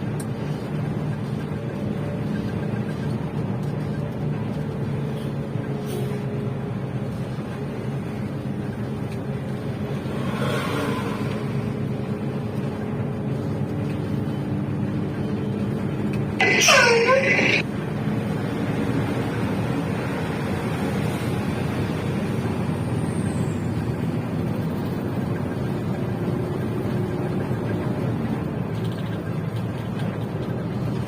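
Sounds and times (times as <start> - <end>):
large vehicle engine drone: 0.0 - 31.0.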